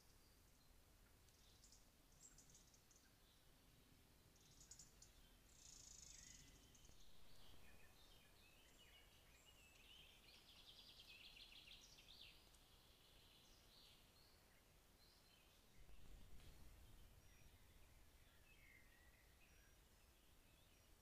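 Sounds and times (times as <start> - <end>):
low hiss: 0.0 - 21.0
songbird chirping: 0.0 - 21.0.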